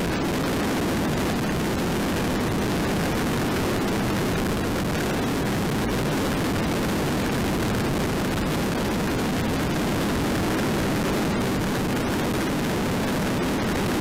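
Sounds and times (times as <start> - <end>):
motorcycle road noise: 0.0 - 14.0
wind rush: 0.0 - 14.0.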